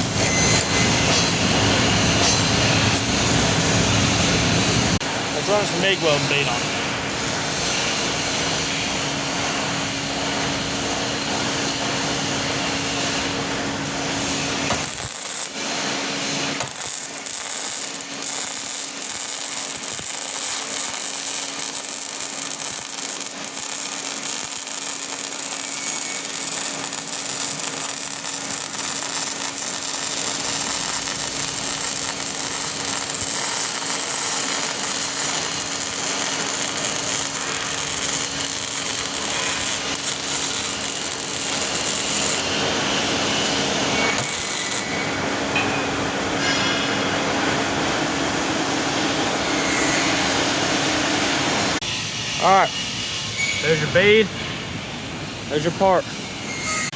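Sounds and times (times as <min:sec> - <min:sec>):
welder arc frying crackle: 0:00.0 - 0:46.6.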